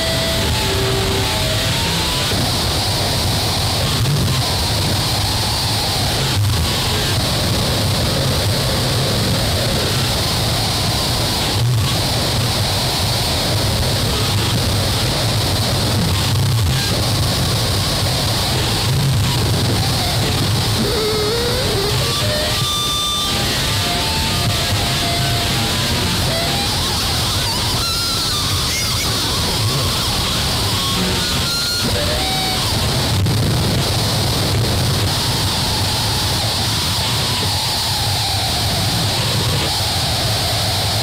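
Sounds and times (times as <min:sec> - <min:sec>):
static-like noise: 0:00.0 - 0:41.0.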